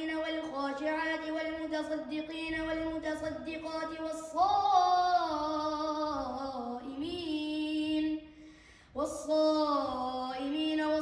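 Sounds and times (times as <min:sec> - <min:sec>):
child chanting recitation: 0:00.0 - 0:08.3, 0:09.0 - 0:11.0.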